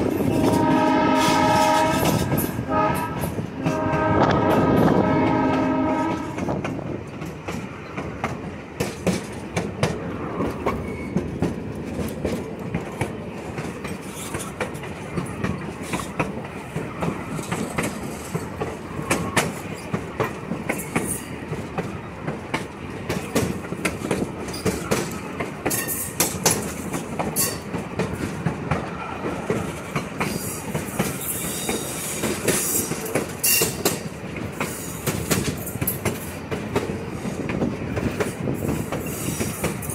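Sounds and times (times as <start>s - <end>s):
rail joint clicks and clacks: 0.0s - 39.9s
train wheels rumbling on track: 0.0s - 39.9s.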